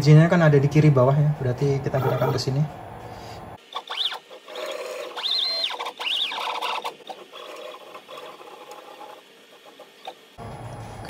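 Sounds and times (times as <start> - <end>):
stepper motors whining: 0.3 - 10.9.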